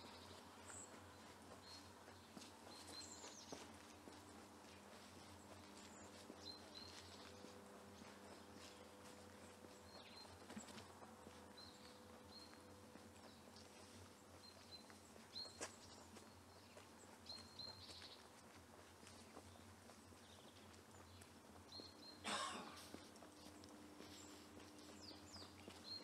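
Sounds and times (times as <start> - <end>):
faint footsteps: 0.0 - 26.0.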